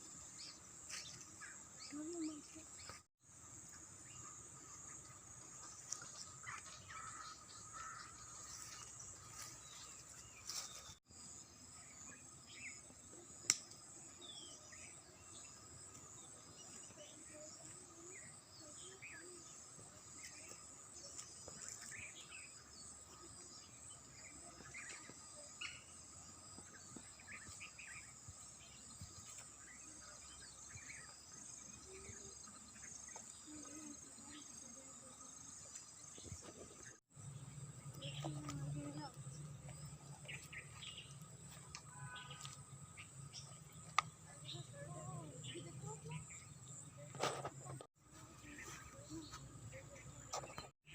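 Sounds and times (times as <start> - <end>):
low steady insect tone: 0.0 - 47.4
birds chirping: 0.0 - 50.9.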